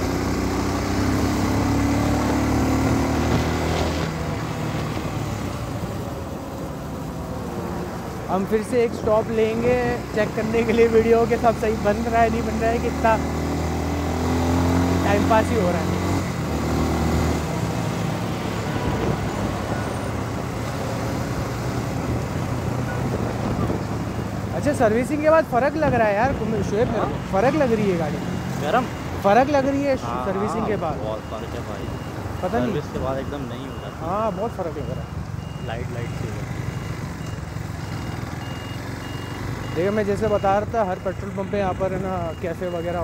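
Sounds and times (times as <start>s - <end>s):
road traffic: 0.0s - 43.0s.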